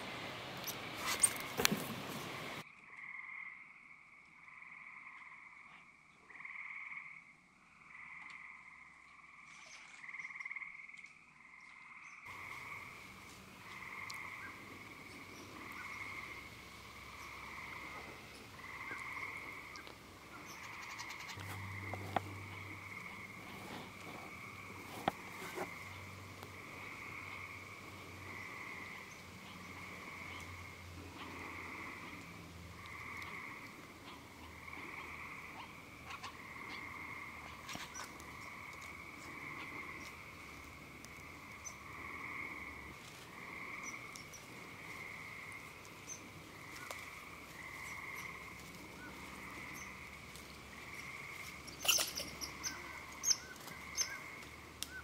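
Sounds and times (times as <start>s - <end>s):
frog chorus calling in pulses: 2.6s - 55.0s.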